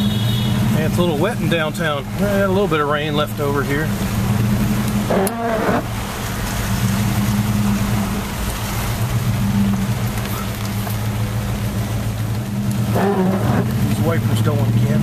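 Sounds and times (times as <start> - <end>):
car engine humming: 0.0 - 15.0
road and rain hiss: 0.0 - 15.0.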